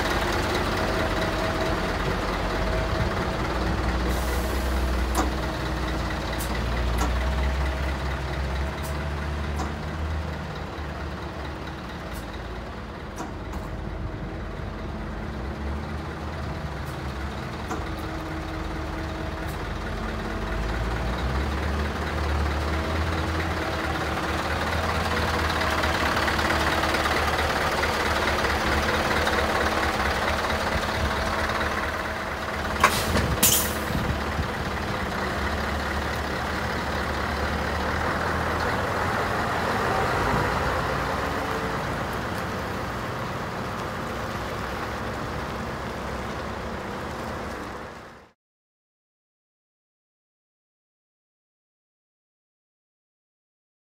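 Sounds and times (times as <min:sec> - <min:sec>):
diesel engine idling: 0:00.0 - 0:48.3.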